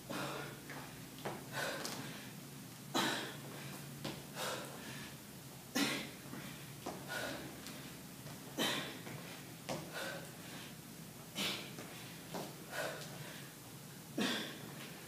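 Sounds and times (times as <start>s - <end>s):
woman breathing hard: 0.0s - 15.0s.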